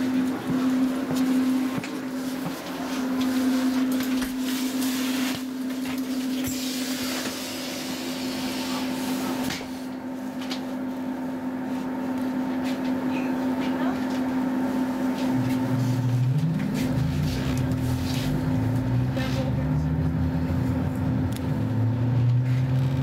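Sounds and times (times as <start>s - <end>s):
electric train equipment humming: 0.0s - 22.9s.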